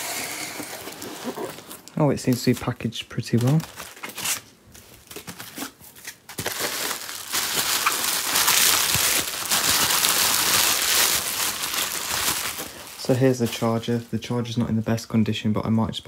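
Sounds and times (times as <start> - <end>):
bubble wrap rustling and crinkling: 0.0 - 15.1.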